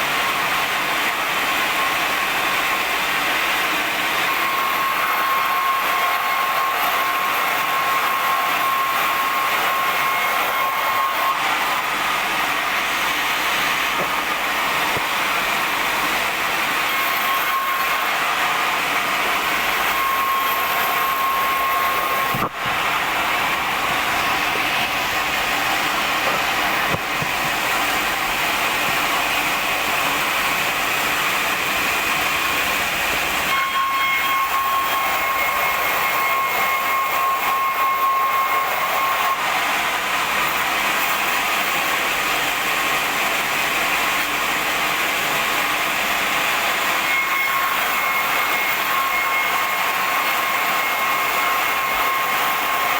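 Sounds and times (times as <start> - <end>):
band saw cutting wood: 0.0 - 52.9.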